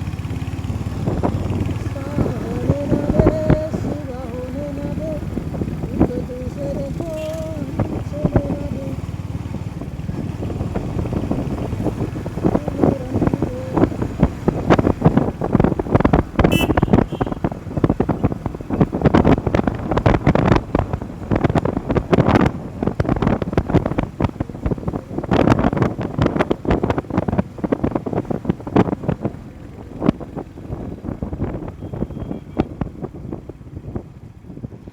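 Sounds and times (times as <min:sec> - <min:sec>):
motorcycle rumble: 0:00.0 - 0:34.9
wind buffeting the microphone: 0:00.0 - 0:34.9.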